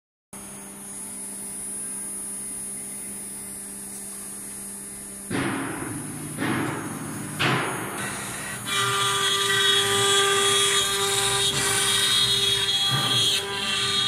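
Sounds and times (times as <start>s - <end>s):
cnc router humming: 0.4s - 14.0s.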